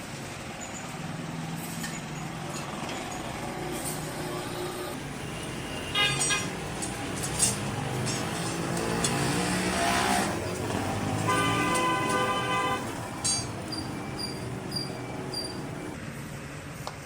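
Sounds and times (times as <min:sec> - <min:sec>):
motor traffic rumble: 0:00.9 - 0:16.0.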